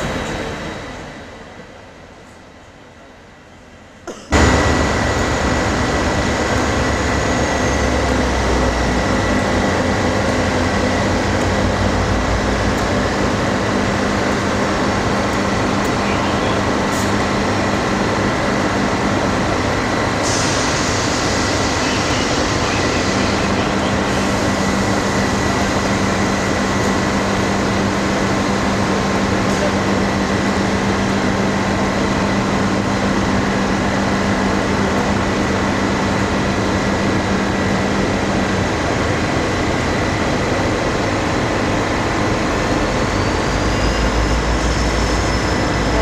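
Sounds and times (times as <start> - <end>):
locomotive engine running: 0.0 - 46.0.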